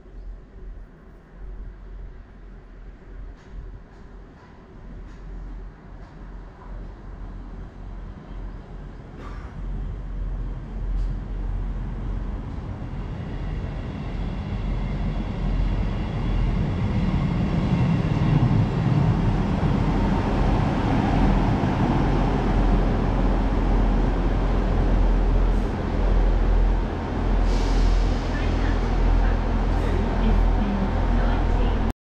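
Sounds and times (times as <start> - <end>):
train wheels rumbling: 3.0 - 31.9
diesel train engine: 3.4 - 31.9.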